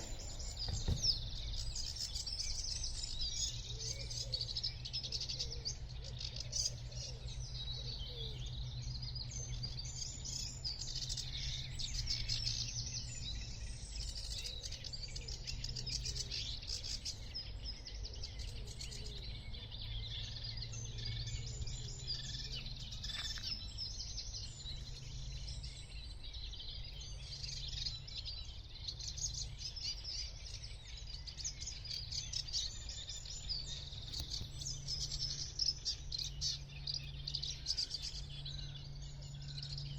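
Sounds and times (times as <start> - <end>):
low steady hum: 0.0 - 39.9
songbirds singing: 0.0 - 39.9.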